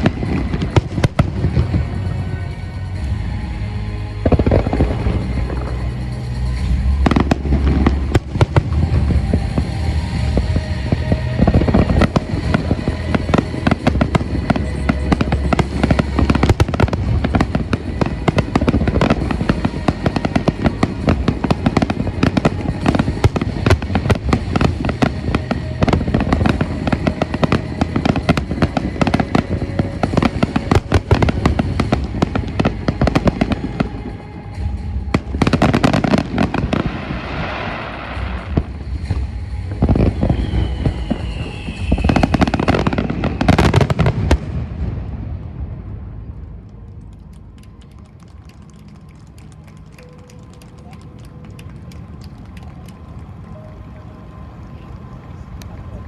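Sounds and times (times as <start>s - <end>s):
fireworks crackling and popping: 0.0s - 56.0s
fireworks low booms: 0.0s - 56.0s
music playing: 0.0s - 56.0s.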